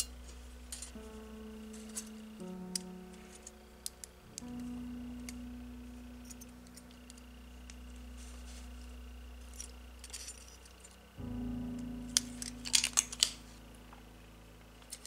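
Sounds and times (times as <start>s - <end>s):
ambient background music: 0.0s - 15.0s.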